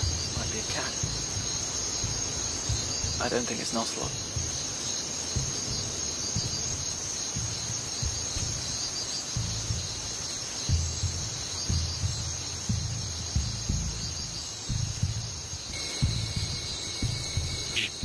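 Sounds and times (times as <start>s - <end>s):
low thumping pulses: 0.0s - 3.5s, 4.1s - 18.0s
crickets trilling: 0.0s - 18.0s.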